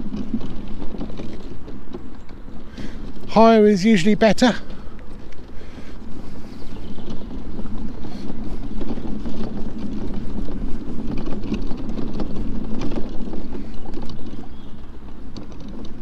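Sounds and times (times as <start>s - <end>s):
knocks and rattles over bumps: 0.0s - 16.0s
mobility scooter rumbling: 0.0s - 16.0s.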